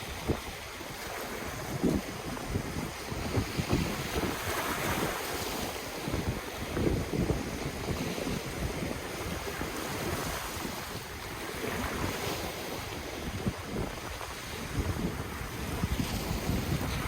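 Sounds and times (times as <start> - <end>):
ocean surf washing in: 0.0 - 17.0
wind buffeting the microphone: 0.0 - 17.0.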